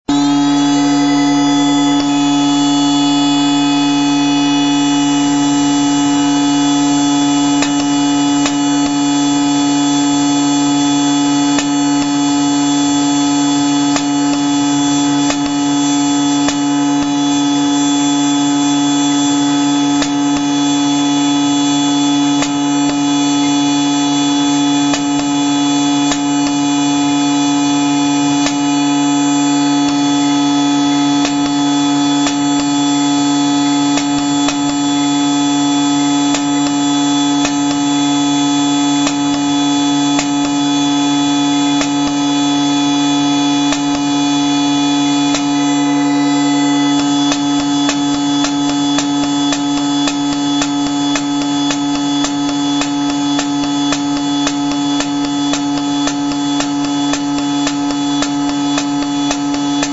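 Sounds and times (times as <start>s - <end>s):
engraving machine humming: 0.0s - 59.9s.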